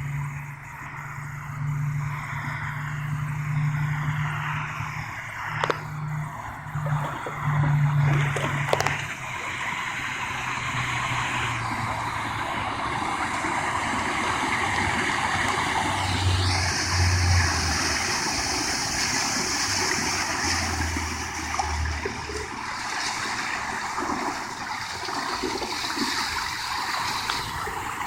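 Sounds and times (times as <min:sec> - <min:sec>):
outboard motors humming: 0:00.0 - 0:28.0
water rushing along boat hull: 0:00.0 - 0:28.0.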